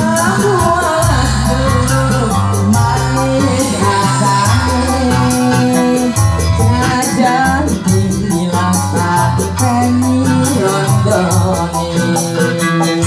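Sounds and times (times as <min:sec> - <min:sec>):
band music with percussion: 0:00.0 - 0:13.0.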